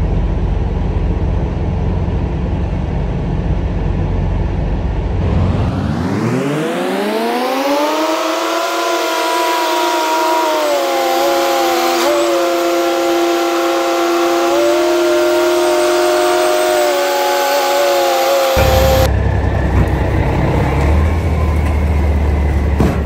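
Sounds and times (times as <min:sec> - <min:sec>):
truck diesel engine revving: 0:00.0 - 0:23.0.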